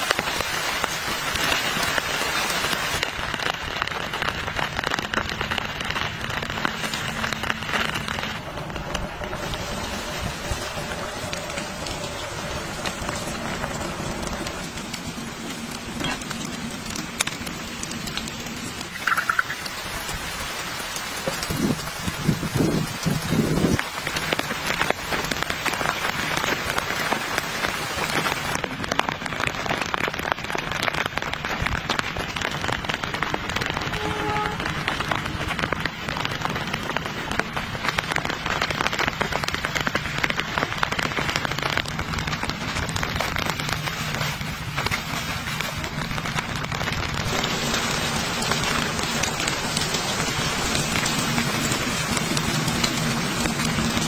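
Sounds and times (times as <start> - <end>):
rain on tent fabric: 0.0 - 54.0.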